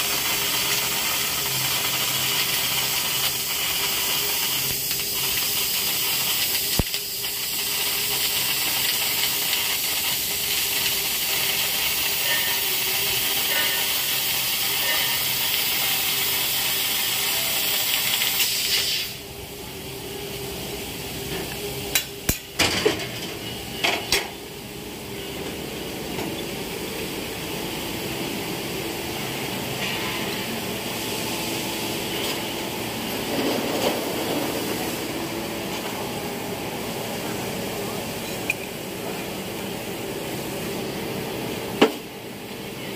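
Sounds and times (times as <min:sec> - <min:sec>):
laser cutter hissing: 0:00.0 - 0:22.6, 0:23.4 - 0:42.0.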